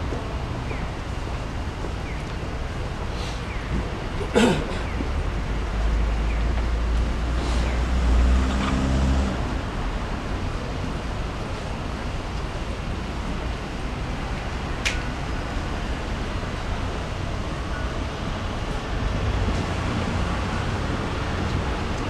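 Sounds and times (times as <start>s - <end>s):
vehicle engine hum: 0.0s - 22.0s
distant traffic hiss: 0.2s - 22.0s.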